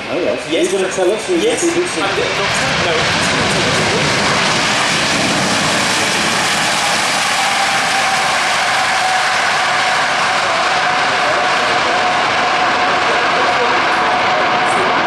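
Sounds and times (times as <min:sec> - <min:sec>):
jet engines roaring: 0:00.0 - 0:15.0
thin whine: 0:00.0 - 0:15.0.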